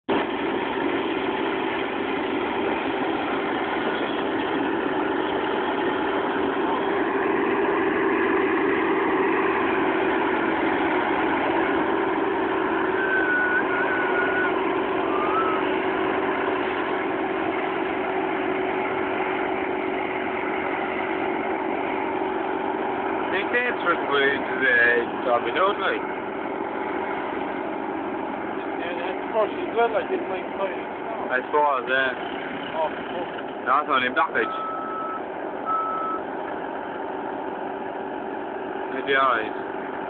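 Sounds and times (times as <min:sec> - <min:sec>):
forage harvester machine drone: 0:00.1 - 0:40.0.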